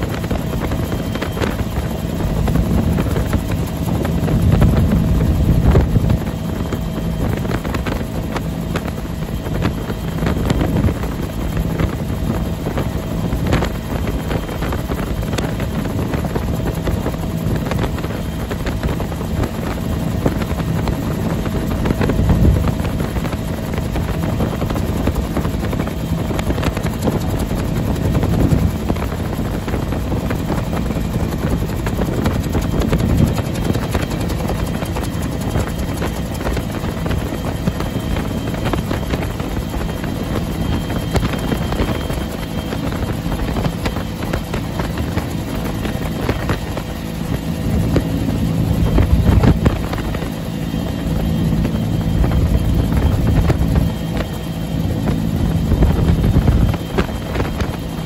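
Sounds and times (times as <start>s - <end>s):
helicopter rotor thudding drone: 0.0s - 58.0s
low wind gusts: 0.0s - 58.0s.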